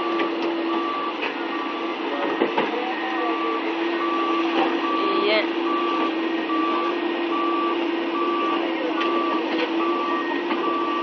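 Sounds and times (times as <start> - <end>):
excavator engine running: 0.0 - 11.0
excavator travel alarm beeping: 0.0 - 11.0.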